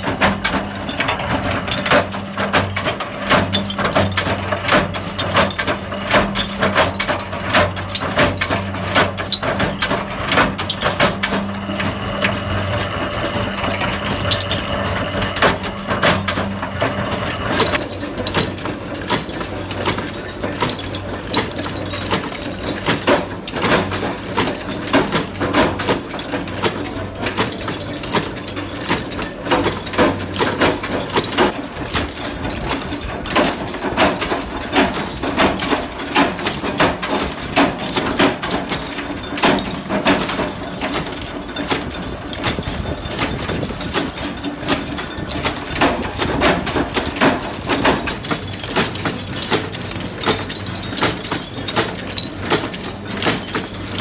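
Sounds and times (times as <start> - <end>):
metal-forming machine clattering: 0.0 - 54.0.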